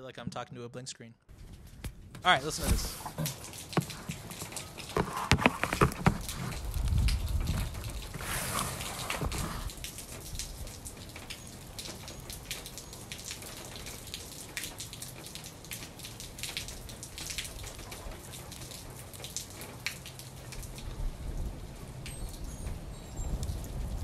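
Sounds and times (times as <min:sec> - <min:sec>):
raindrops ticking: 0:01.3 - 0:24.0.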